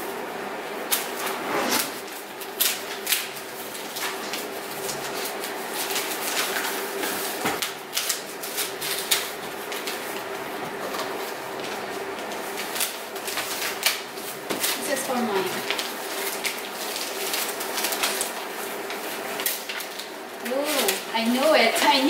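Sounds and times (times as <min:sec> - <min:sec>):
wrapping paper crackling and tearing: 0:00.8 - 0:22.0.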